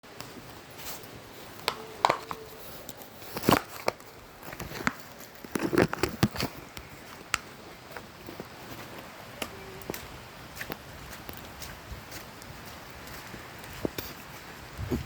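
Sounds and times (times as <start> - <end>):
faint steady hiss: 0.1 - 15.0.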